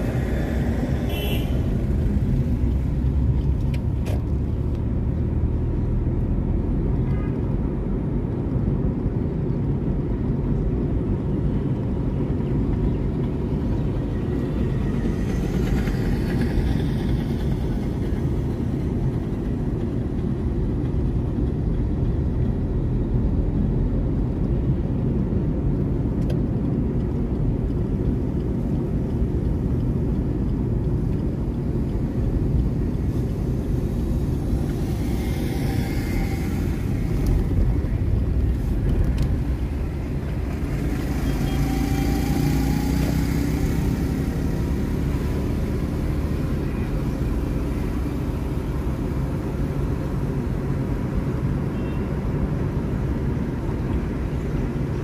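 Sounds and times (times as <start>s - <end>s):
car cabin road and engine noise: 0.0s - 55.0s
vehicles passing by: 0.0s - 55.0s.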